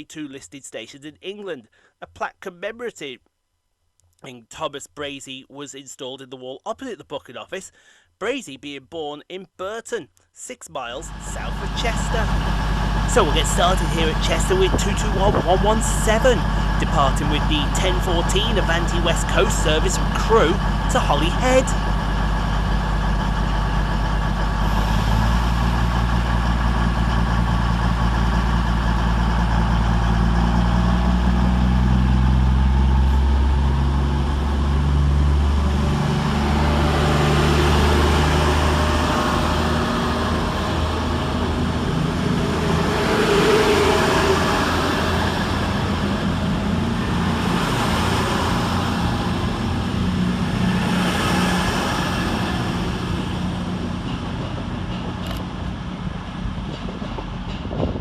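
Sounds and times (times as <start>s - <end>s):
diesel train engines running: 10.7s - 58.0s
train rolling past: 10.9s - 58.0s.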